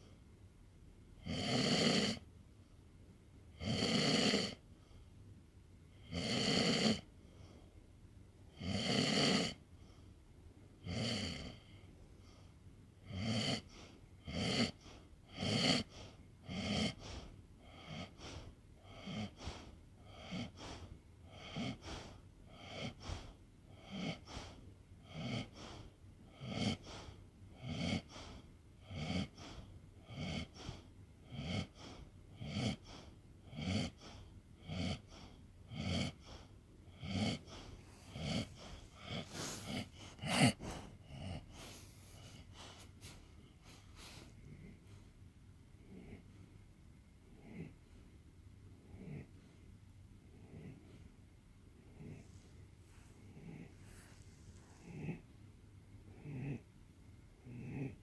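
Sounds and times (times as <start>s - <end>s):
pet snoring: 1.2s - 2.3s, 3.5s - 4.6s, 6.0s - 7.6s, 8.5s - 9.6s, 10.8s - 12.4s, 13.0s - 45.1s, 45.8s - 46.4s, 47.2s - 47.9s, 48.7s - 49.6s, 50.2s - 51.1s, 51.8s - 55.4s, 56.0s - 58.0s.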